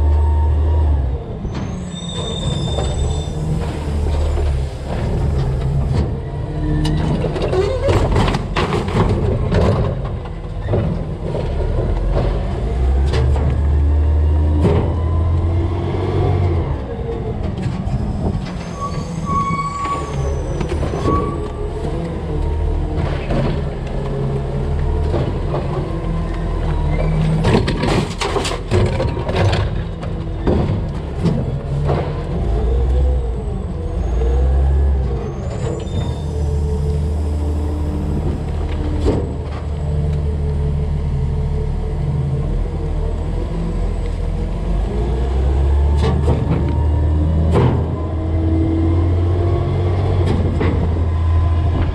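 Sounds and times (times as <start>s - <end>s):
garbage truck engine and hydraulics: 0.0s - 51.9s.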